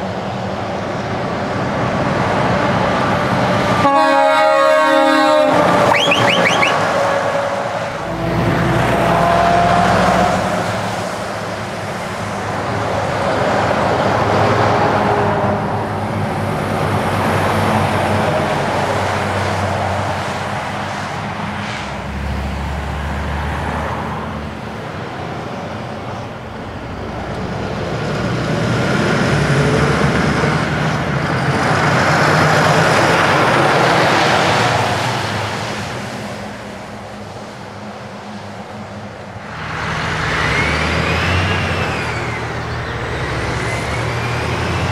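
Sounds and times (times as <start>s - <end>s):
trucks passing by: 0.0s - 44.9s.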